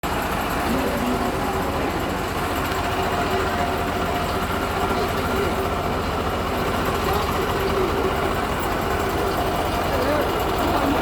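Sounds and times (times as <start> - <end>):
train engine rumbling: 0.0 - 11.0.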